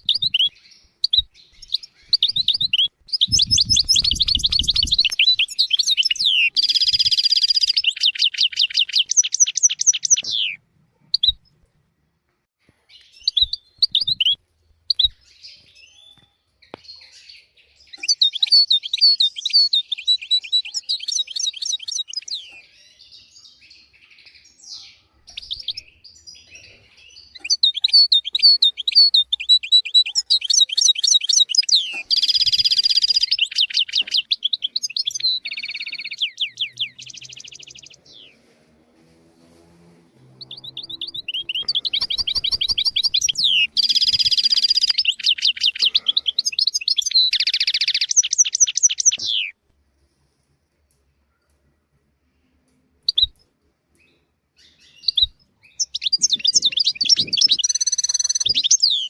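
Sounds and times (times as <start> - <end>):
goldfinch twittering song: 0.0 - 10.6, 13.0 - 38.4, 40.3 - 49.5, 54.6 - 59.0.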